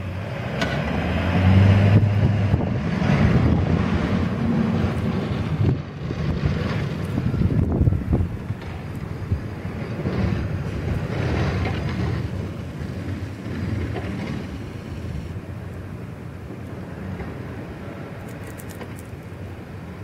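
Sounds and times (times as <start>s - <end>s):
blizzard wind gusting: 0.0s - 20.0s.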